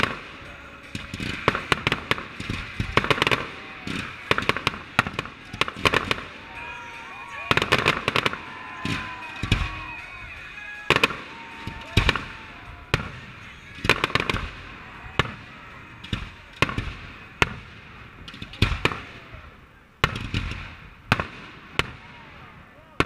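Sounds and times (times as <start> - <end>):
firework shells bursting: 0.0 - 22.5
background hiss: 0.0 - 23.0.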